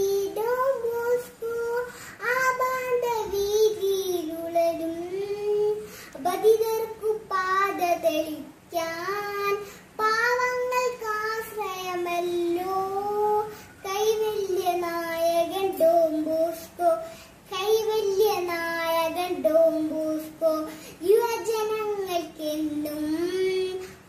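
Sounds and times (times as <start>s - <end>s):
girl singing: 0.0s - 24.0s.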